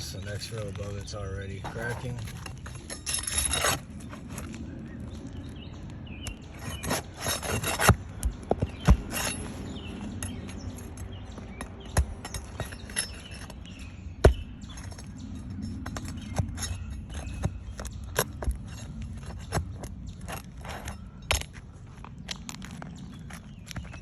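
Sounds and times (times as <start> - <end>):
footsteps on roof shingles: 0.0 - 24.0
tool prying at shingles: 1.6 - 4.5, 6.2 - 24.0.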